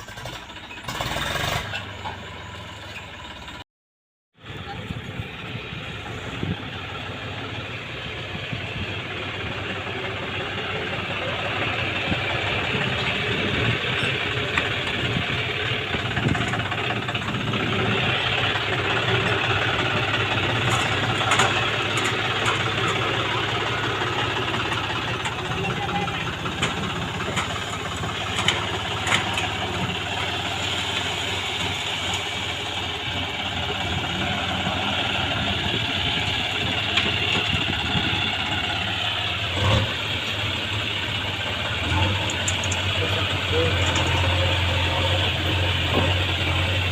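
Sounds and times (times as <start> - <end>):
diesel engine running: 0.0 - 3.6, 4.4 - 46.9.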